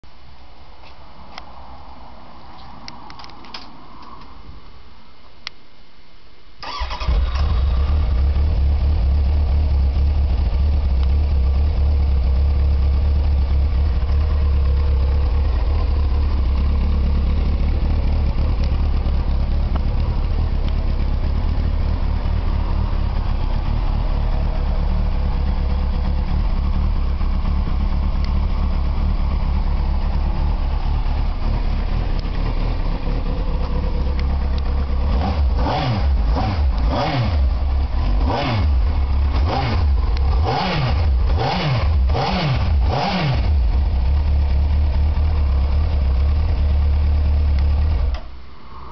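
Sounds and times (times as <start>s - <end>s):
motorcycle engine starting and idling: 6.6s - 48.9s.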